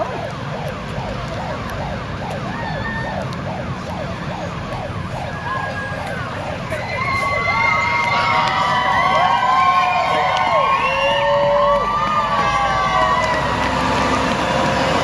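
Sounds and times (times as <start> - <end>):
fire engine sirens wailing: 0.0 - 15.0
low rumble of passing trucks: 0.0 - 15.0.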